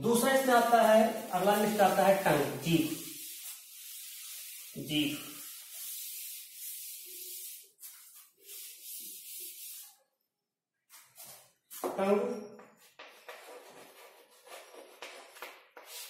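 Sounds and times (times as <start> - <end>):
duster wiping chalkboard: 0.0 - 10.0, 12.8 - 16.0.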